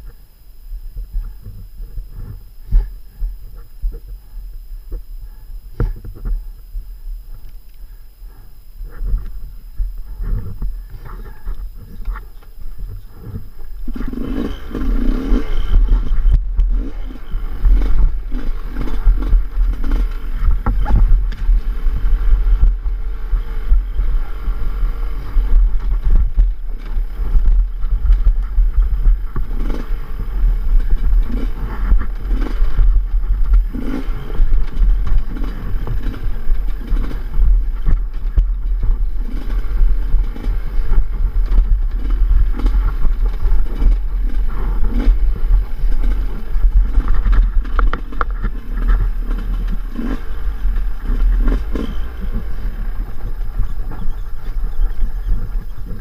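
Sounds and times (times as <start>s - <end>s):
low rumble on microphone: 0.0s - 56.0s
motorcycle engine revving: 8.2s - 56.0s.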